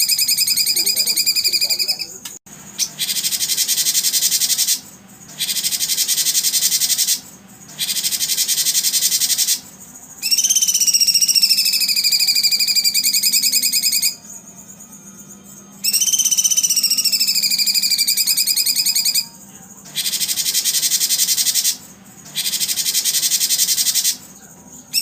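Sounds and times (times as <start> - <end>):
high pulsed buzzing trills: 0.0 - 25.0.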